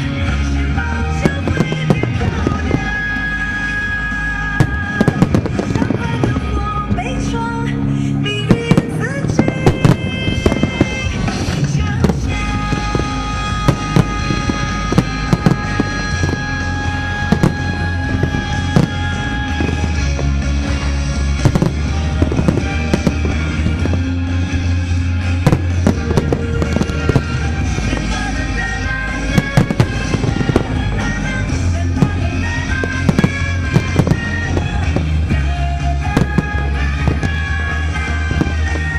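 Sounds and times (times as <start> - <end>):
fireworks cracking and banging: 0.0 - 7.2, 7.8 - 38.9
loud music with heavy bass: 0.0 - 38.9.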